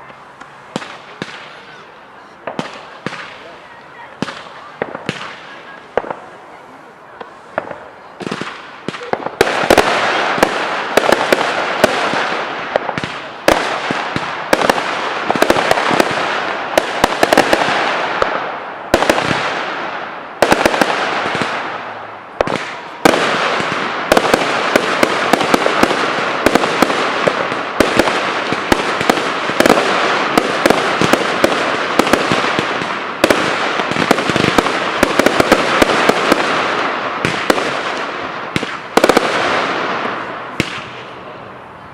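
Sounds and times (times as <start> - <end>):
fireworks bangs: 0.0 - 41.9
fireworks crackle: 0.0 - 41.9.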